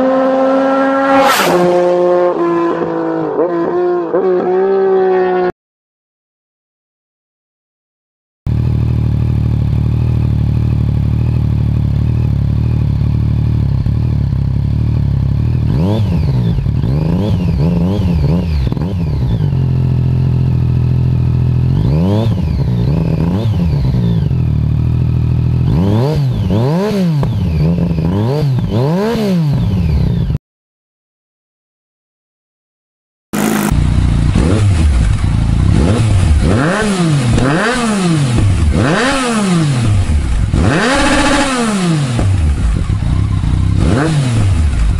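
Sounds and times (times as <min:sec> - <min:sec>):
motorcycle engine idling and revving: 0:00.0 - 0:05.5, 0:08.5 - 0:30.4, 0:33.4 - 0:44.9.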